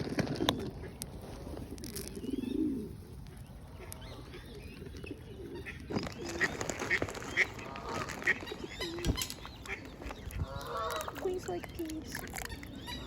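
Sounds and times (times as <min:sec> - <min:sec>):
pigeons cooing: 0:00.0 - 0:13.0
small birds chirping: 0:00.2 - 0:13.0.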